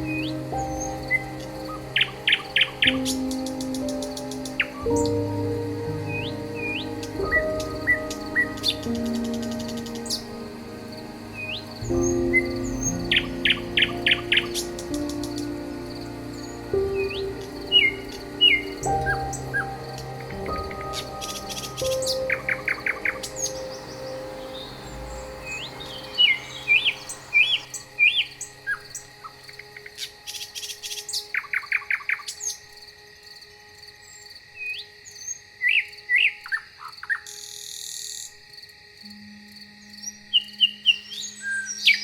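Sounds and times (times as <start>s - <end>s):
songbirds singing and chirping: 0.0s - 42.0s.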